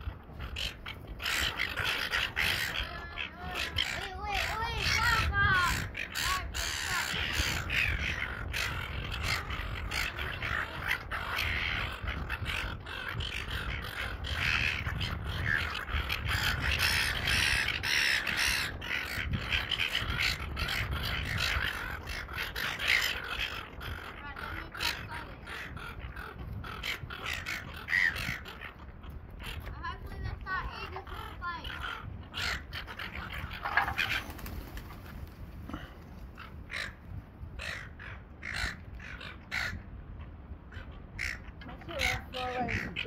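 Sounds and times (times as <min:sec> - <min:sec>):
seagulls squawking: 0:00.0 - 0:43.0
wind rumbling on microphone: 0:00.0 - 0:43.0.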